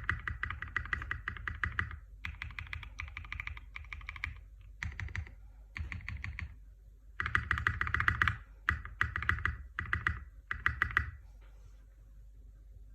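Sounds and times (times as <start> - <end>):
mechanical keyboard typing: 0.0 - 6.6, 7.2 - 11.2.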